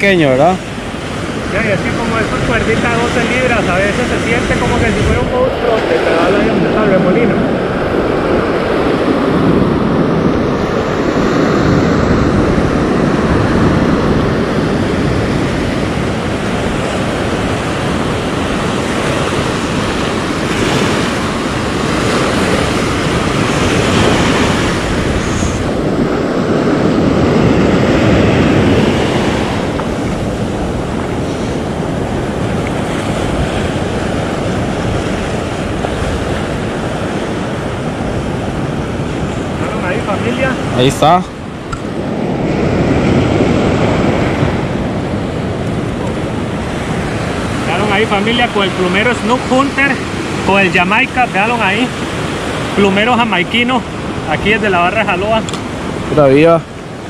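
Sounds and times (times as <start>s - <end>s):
ocean surf breaking on beach: 0.0s - 57.0s
wind buffeting microphone: 0.0s - 57.0s.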